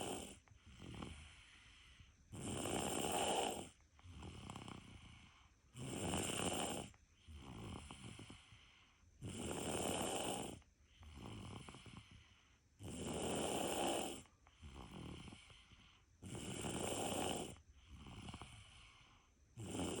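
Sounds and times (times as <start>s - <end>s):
loud snoring: 0.0s - 20.0s
soft breathing: 0.0s - 20.0s.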